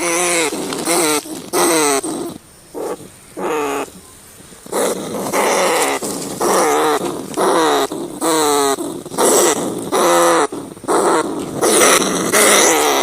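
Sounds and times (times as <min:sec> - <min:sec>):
rats squealing: 0:00.0 - 0:04.0, 0:04.6 - 0:13.0.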